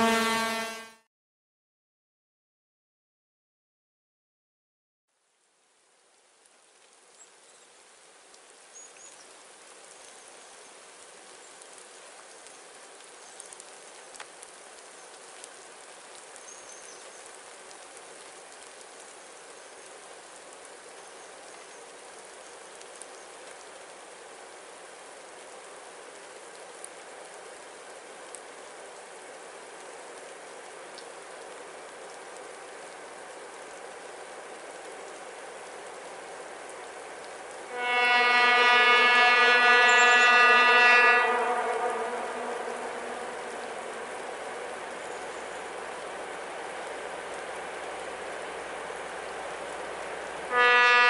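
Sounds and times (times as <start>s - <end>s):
light rain: 0.0s - 1.0s, 5.1s - 51.0s
raindrop ticks: 5.2s - 51.0s.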